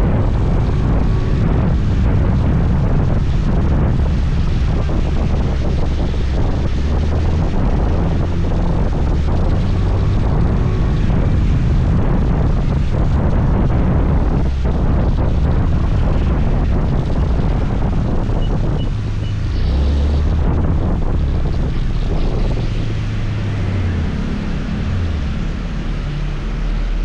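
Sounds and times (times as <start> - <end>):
road noise: 0.0 - 27.0
wind rumble on microphone: 0.0 - 27.0.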